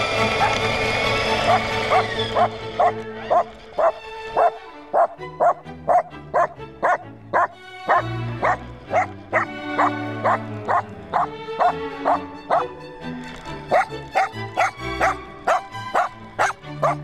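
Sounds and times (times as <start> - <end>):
background music: 0.0 - 17.0
small dog barking: 1.5 - 12.7, 13.7 - 17.0.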